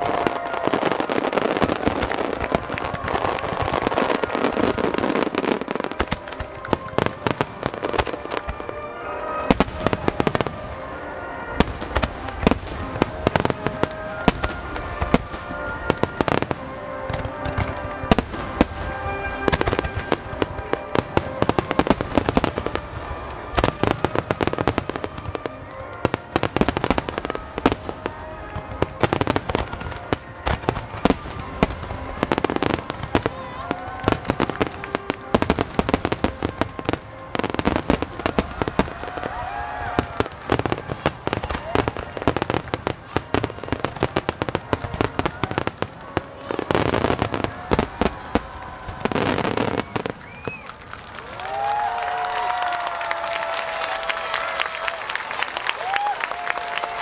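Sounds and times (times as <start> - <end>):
fireworks bangs and crackles: 0.0 - 57.0
music: 0.0 - 57.0.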